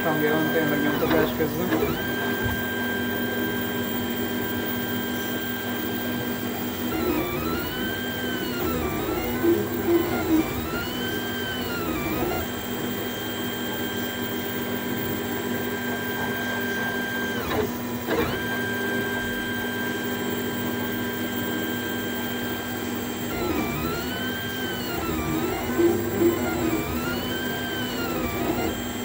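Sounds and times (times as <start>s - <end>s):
stepper motors whining: 0.0s - 29.0s.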